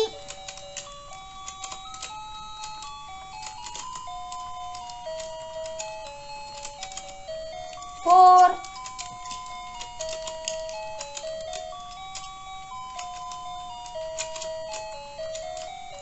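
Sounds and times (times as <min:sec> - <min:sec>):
tinny electronic toy tune: 0:00.0 - 0:16.0.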